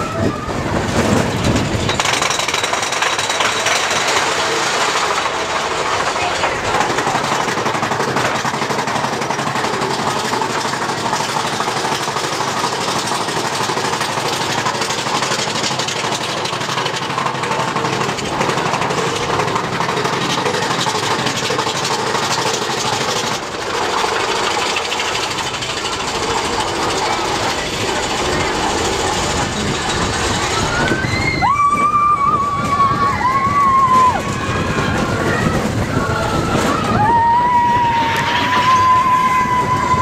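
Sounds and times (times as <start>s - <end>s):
roller coaster rattling on track: 0.0s - 40.0s.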